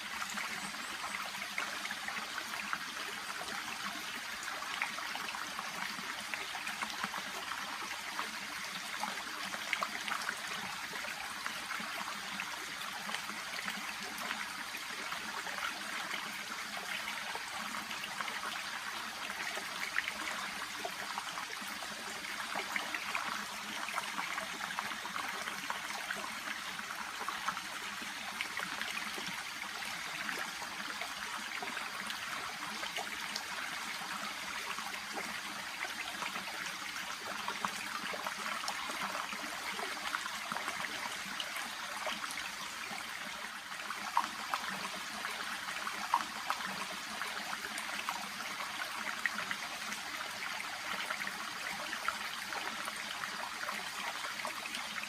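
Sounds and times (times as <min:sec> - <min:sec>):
shallow brook babbling: 0:00.0 - 0:55.0.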